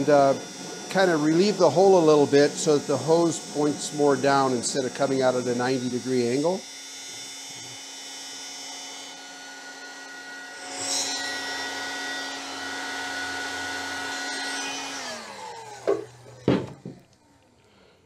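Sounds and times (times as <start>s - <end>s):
heat gun fan whine: 0.0s - 17.8s.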